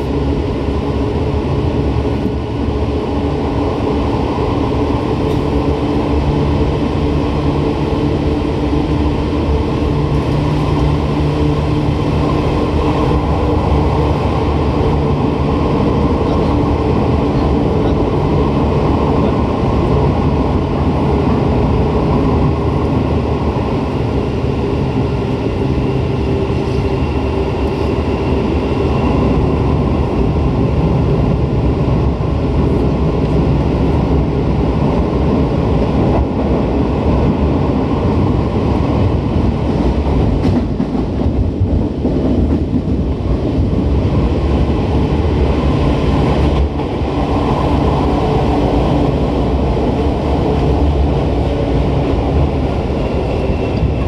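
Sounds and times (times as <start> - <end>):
electric train wheels rumbling: 0.0 - 54.0.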